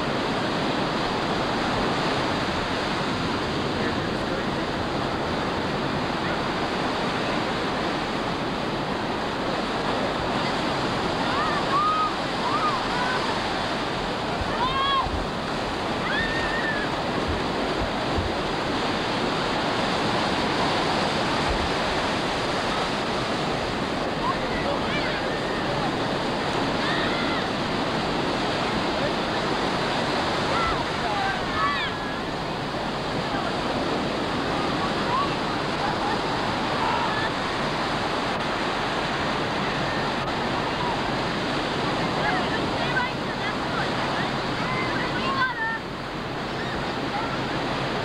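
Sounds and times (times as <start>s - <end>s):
ocean waves breaking: 0.0s - 48.0s.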